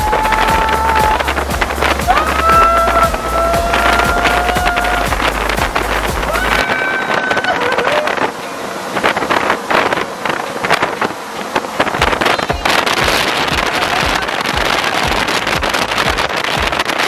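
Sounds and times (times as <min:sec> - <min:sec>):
strong wind from fans: 0:00.0 - 0:17.0
wind buffeting microphone: 0:00.0 - 0:17.0.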